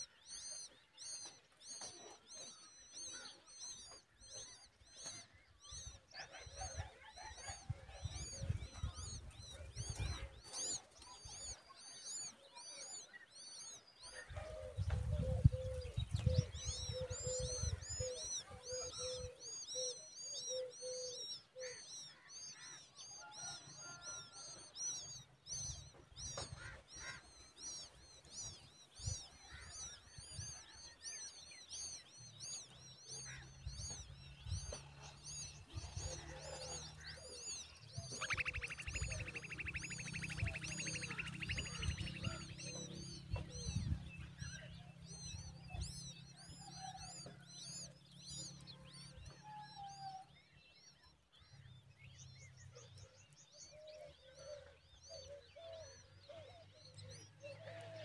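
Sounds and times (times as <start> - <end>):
nestlings chirping: 0.0 - 49.4.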